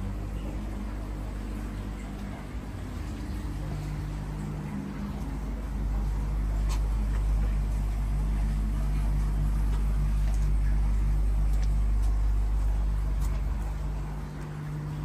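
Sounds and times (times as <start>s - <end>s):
muffled waterfall rumble: 0.0s - 15.0s.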